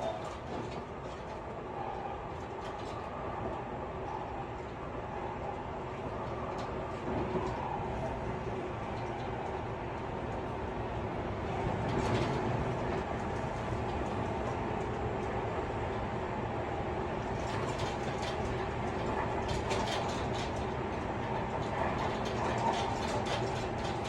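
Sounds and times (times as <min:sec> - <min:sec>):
train rolling noise: 0:00.0 - 0:24.0.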